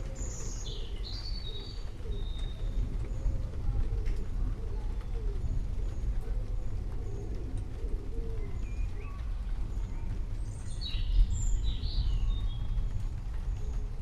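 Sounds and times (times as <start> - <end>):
birds chirping and calling: 0.0 - 14.0
steady low rumble: 0.0 - 14.0.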